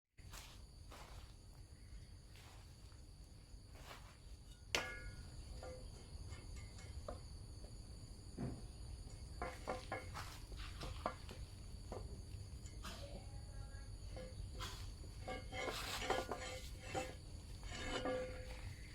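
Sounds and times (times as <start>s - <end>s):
high-pitched insect chorus: 0.3s - 4.5s, 5.1s - 18.9s.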